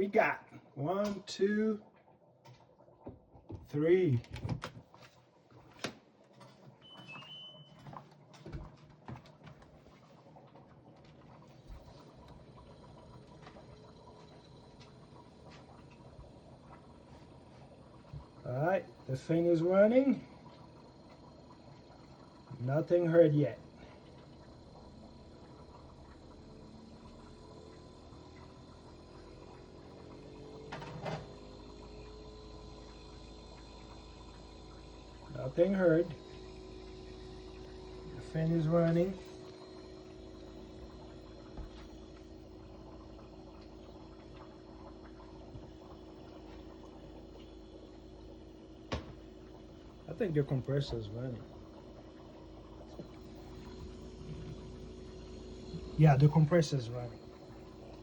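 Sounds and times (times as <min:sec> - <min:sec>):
refrigerator fan humming: 0:00.0 - 0:58.0.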